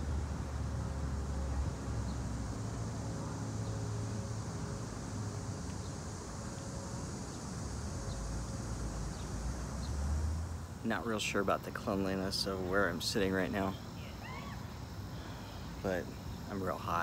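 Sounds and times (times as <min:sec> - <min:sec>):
light hiss: 0:00.0 - 0:17.0.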